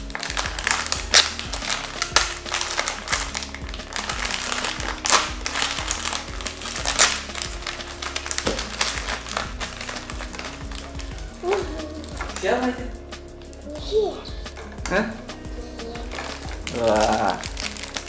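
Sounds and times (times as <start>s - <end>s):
plastic wrapper crinkling: 0.0s - 12.8s, 15.7s - 18.0s
background music: 0.0s - 18.0s.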